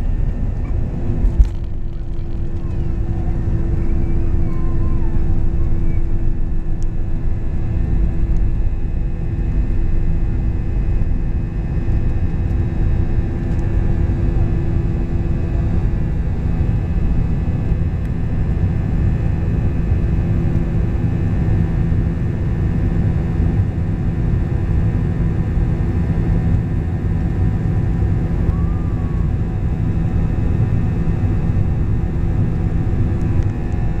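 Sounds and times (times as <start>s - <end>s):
engine hum tones: 0.0s - 34.0s
jet engines deep rumble: 0.0s - 34.0s.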